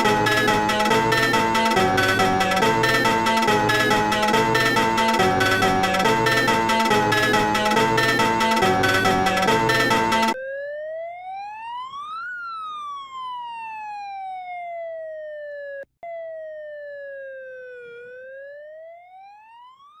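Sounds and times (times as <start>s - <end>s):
electronic wailing siren: 0.0s - 20.0s.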